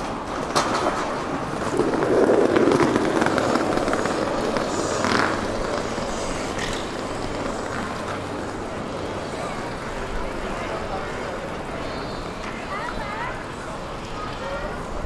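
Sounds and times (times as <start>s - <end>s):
railway rumbling: 0.0s - 15.0s.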